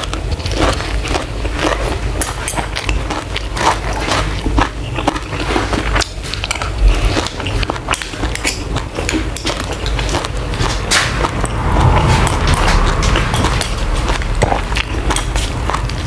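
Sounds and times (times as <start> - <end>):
wet chewing and mouth smacks: 0.0 - 16.0.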